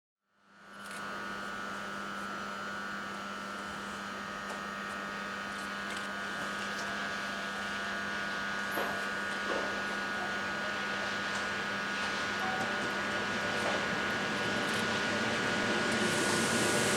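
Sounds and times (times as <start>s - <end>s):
electric locomotive hum and whine: 0.5s - 16.9s.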